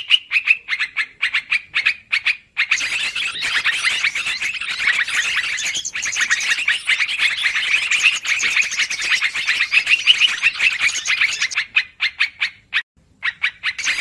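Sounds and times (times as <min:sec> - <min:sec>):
birds chattering: 0:00.1 - 0:14.0.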